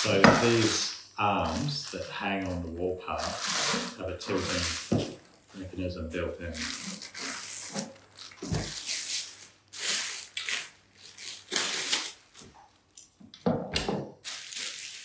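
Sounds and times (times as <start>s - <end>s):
plastic bag rustling: 0.0s - 13.0s, 14.2s - 15.0s.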